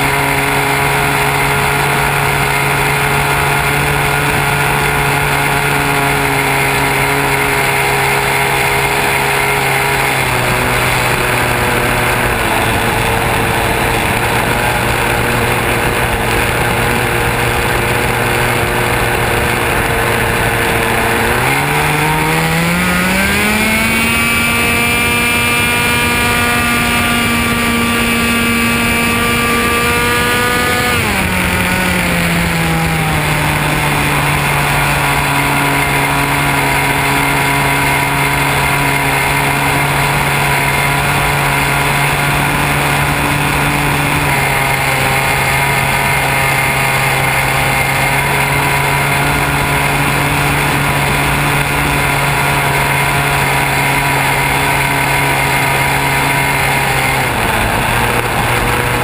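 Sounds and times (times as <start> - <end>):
model airplane motor and propeller: 0.0 - 59.0
wind rushing over microphone: 8.2 - 59.0.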